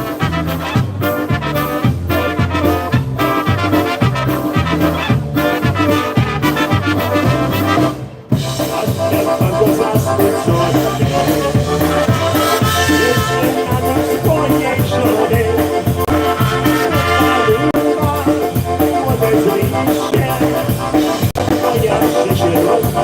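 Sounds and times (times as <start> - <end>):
polka band playing: 0.0 - 23.0.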